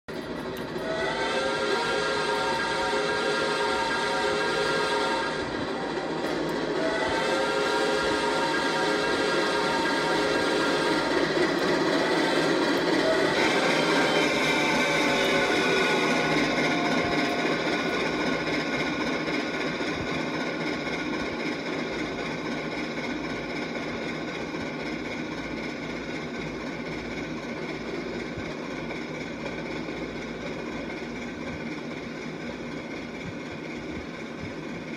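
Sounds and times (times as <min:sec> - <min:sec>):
train rumbling past: 0:00.1 - 0:34.9.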